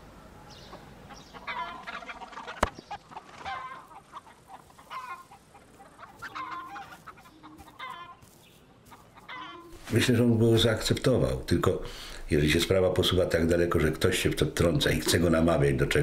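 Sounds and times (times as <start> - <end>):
chickens clucking: 0.4 - 15.8.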